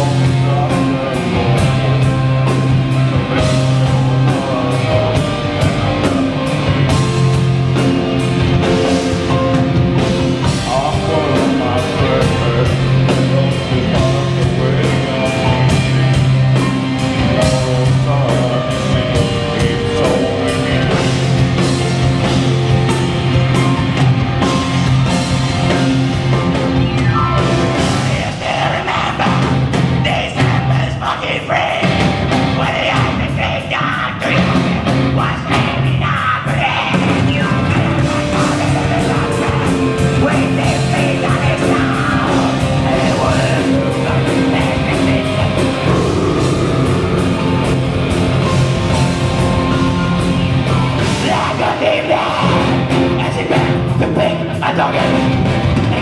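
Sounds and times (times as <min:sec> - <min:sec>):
man singing: 0:00.0 - 0:08.0, 0:10.4 - 0:22.6, 0:25.7 - 0:47.8, 0:50.7 - 0:56.0
bass guitar: 0:00.0 - 0:56.0
distorted electric guitars: 0:00.0 - 0:56.0
drum kit: 0:00.0 - 0:56.0.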